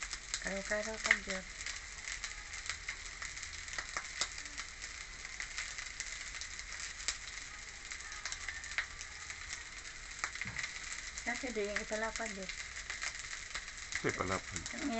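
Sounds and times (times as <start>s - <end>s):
rice sizzling in a frying pan: 0.0s - 14.9s.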